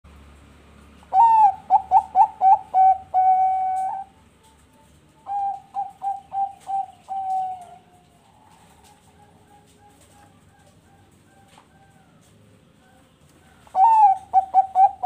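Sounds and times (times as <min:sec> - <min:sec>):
dove cooing: 0:01.0 - 0:15.0.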